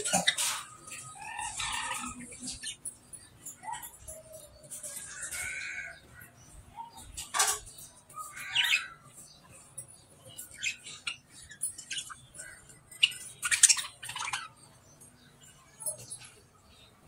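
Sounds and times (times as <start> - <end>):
budgerigars chattering and squawking: 0.0 - 14.8.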